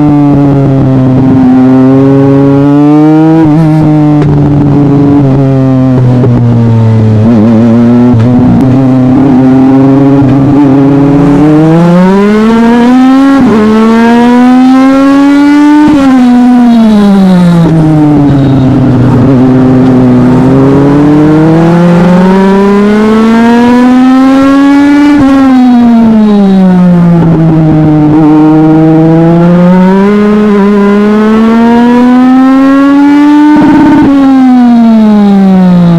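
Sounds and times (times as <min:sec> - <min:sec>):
racing engine revving: 0:00.0 - 0:35.9.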